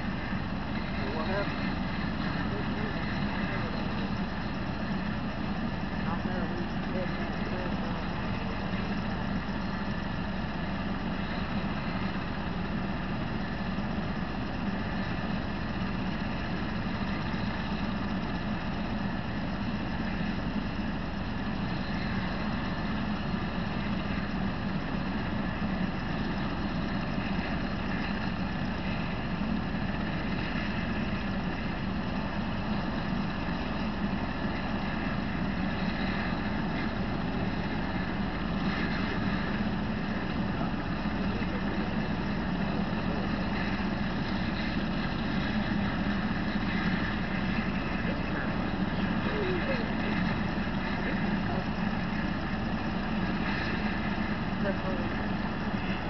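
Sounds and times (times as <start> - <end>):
constant hiss: 0.0 - 56.0
vehicle engine idling: 0.0 - 56.0.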